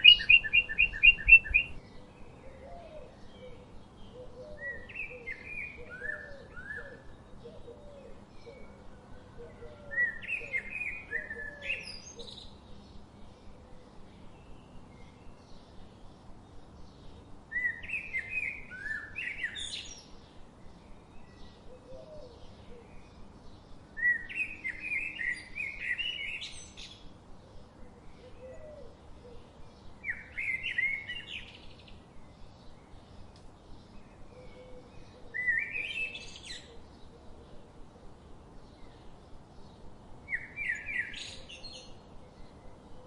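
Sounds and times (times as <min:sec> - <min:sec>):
low background hiss: 0:00.0 - 0:43.0
songbird singing: 0:00.0 - 0:43.0.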